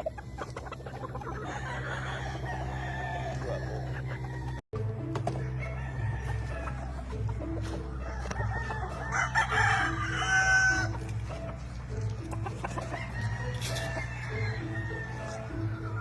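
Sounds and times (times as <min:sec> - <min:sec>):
background music with low beat: 0:00.0 - 0:16.0
hens clucking: 0:00.0 - 0:16.0
roosters crowing: 0:00.0 - 0:16.0.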